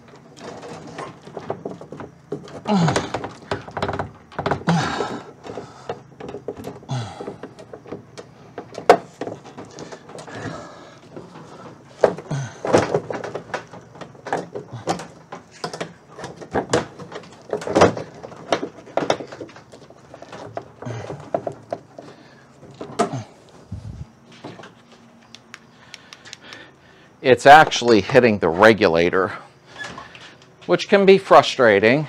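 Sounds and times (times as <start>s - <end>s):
metal and glass clunking and scraping: 0.0s - 25.0s, 29.7s - 30.7s.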